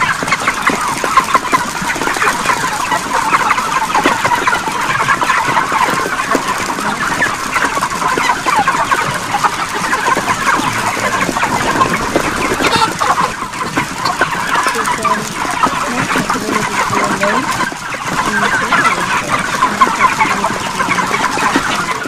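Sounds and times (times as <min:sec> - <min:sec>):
chickens clucking and cheeping: 0:00.0 - 0:22.0.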